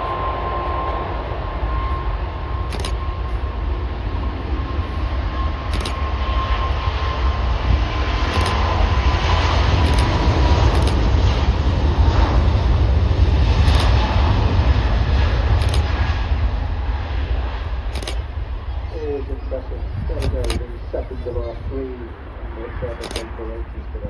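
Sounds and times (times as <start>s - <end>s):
jet engines at takeoff: 0.0s - 24.0s.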